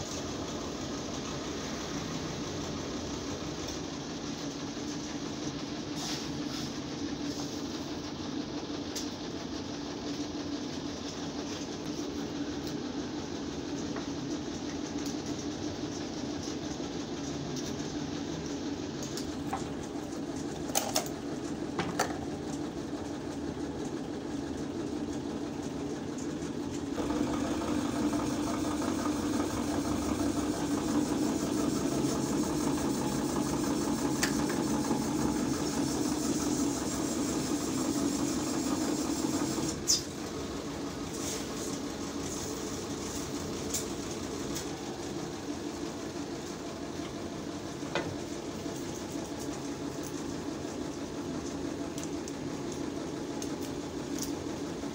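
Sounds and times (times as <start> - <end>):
workshop machinery hum: 0.0 - 54.9.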